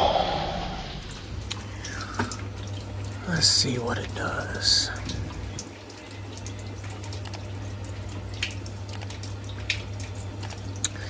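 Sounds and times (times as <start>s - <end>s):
steady low hum: 0.0s - 11.0s
water running into washer tub: 0.7s - 11.0s.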